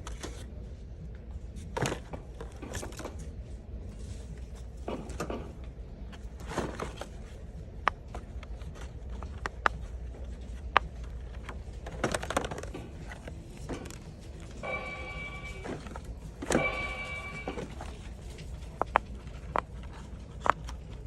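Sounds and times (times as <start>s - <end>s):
low steady hum: 0.0s - 21.0s
handling rustling: 1.4s - 21.0s.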